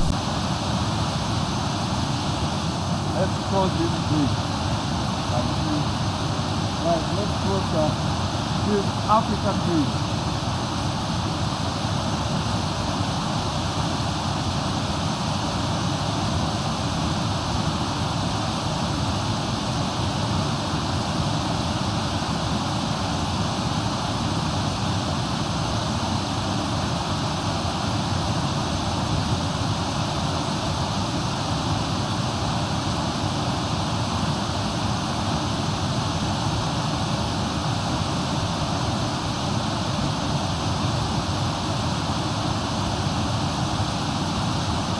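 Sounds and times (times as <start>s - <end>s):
waterfall and river rushing: 0.0s - 44.9s.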